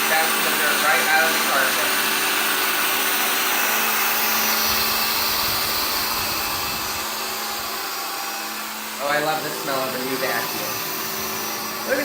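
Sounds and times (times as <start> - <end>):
vacuum cleaner motor hum: 0.0 - 12.0.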